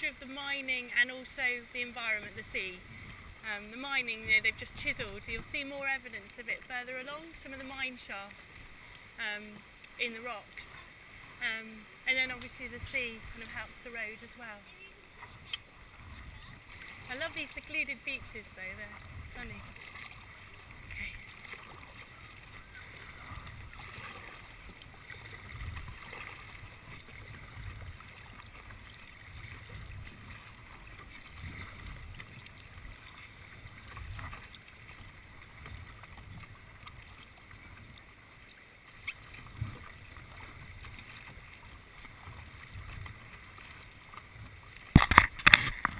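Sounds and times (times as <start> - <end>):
kayak paddle strokes in water: 0.0 - 45.9.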